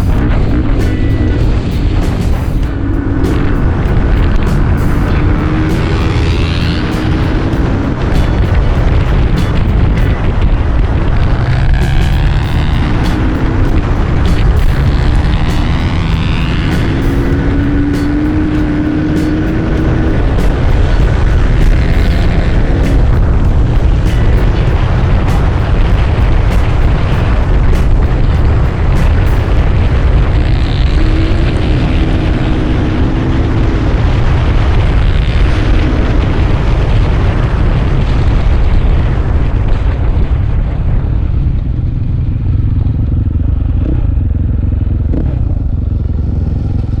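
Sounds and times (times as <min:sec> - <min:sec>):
dirt bike engine running: 0:00.0 - 0:47.0
wind rumble on microphone: 0:00.0 - 0:47.0.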